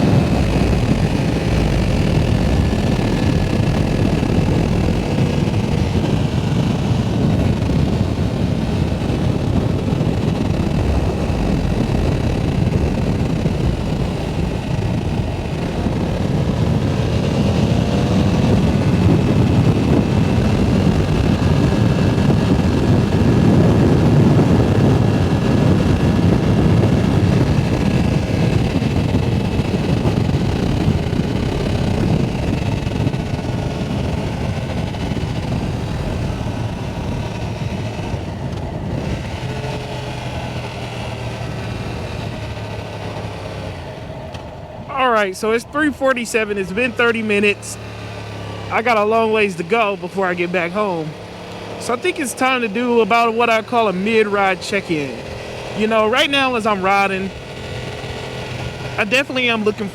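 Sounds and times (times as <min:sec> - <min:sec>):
motorcycle engine running: 0:00.0 - 0:59.9
wind rushing on microphone: 0:00.0 - 0:59.9.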